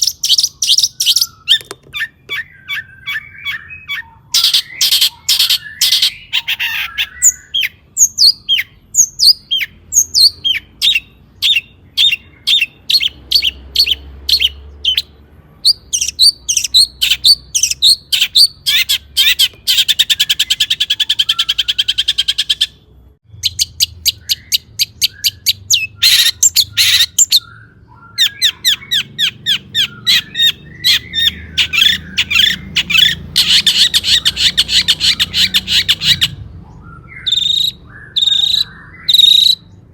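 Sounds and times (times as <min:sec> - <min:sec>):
bird buzzy trill: 0:00.0 - 0:39.7
bird chattering song: 0:00.0 - 0:39.9.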